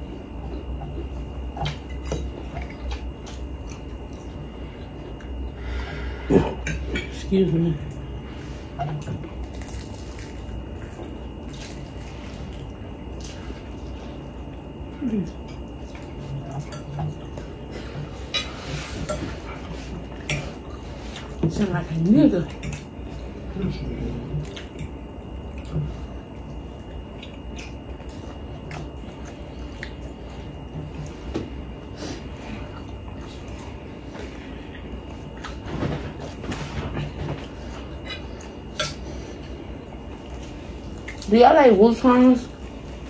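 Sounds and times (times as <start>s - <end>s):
wet chewing of food: 0.0s - 6.9s, 7.8s - 23.5s, 24.2s - 41.4s
steady low hum: 0.0s - 43.0s.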